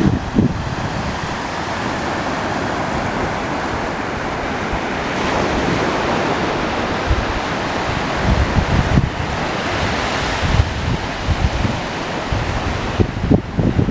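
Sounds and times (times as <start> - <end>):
ocean surf washing on shore: 0.0 - 13.9
wind buffeting microphone: 0.0 - 13.9.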